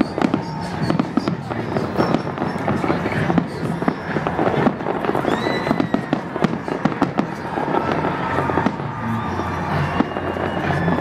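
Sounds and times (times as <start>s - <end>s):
fireworks bangs and crackling: 0.0s - 11.0s
high firework whistle: 0.0s - 11.0s.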